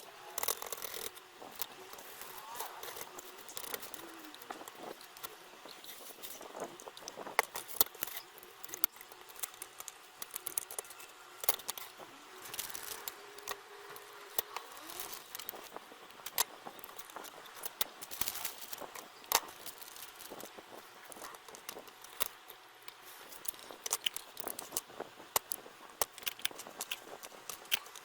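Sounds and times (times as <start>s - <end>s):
hand tools clicking and rattling: 0.3s - 28.0s.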